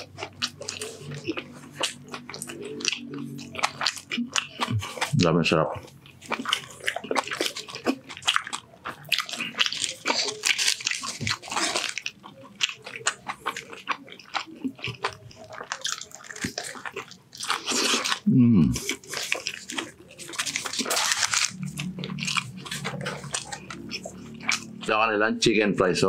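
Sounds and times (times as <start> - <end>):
biting into a wrap: 0.0 - 25.0
close-miked chewing: 0.0 - 25.2.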